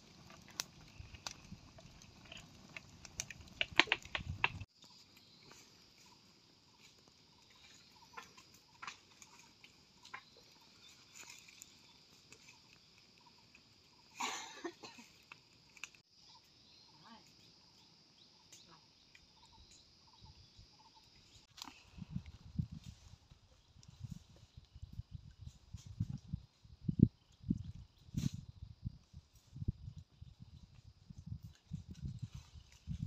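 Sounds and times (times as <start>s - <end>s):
fire crackling and popping: 0.0s - 16.1s, 21.1s - 33.0s.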